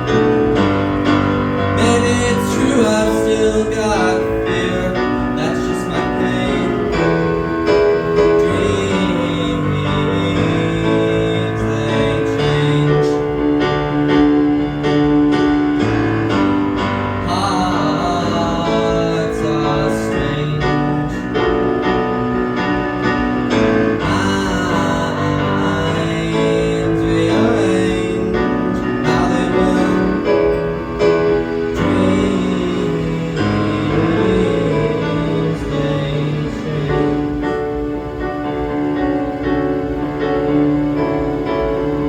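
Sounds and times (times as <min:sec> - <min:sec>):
piano playing held chords: 0:00.0 - 0:42.0.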